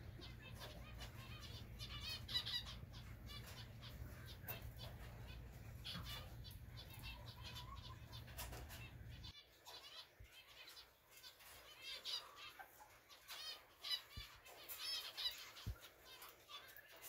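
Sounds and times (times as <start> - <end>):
finches chirping: 0.0 - 17.0.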